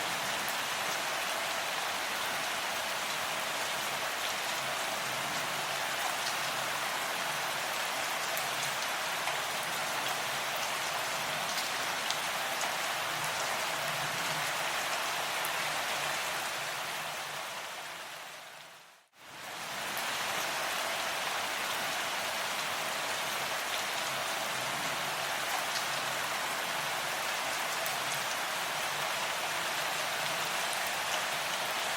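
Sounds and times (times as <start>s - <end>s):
rain hiss: 0.0s - 31.9s.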